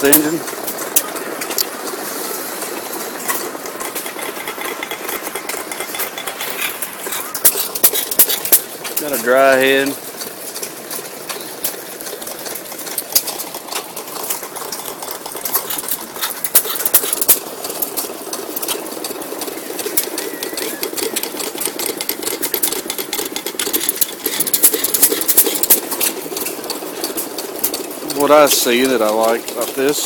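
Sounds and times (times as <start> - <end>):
hit-and-miss engine clattering: 0.0 - 30.0.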